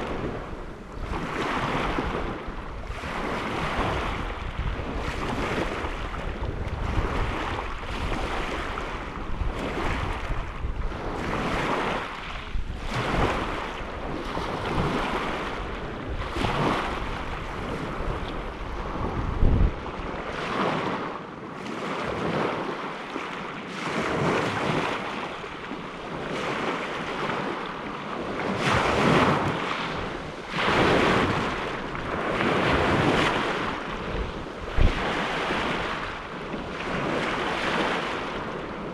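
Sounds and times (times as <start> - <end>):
waves washing onto shore: 0.0 - 38.9
wind buffeting microphone: 0.0 - 38.9.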